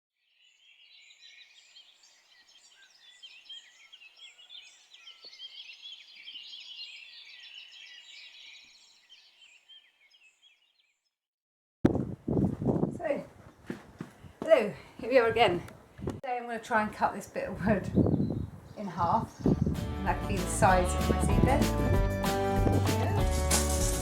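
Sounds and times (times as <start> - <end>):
small birds chirping: 0.2 - 11.2, 12.3 - 23.2.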